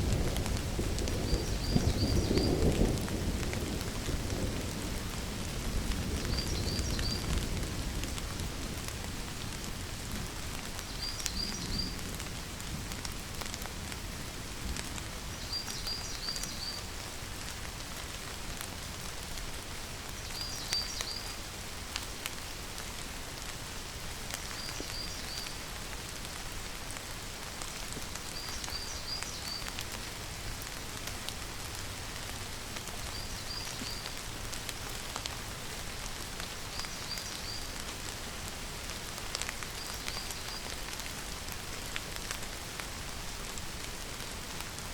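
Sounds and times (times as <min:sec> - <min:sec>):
steady rainfall: 0:00.0 - 0:44.9.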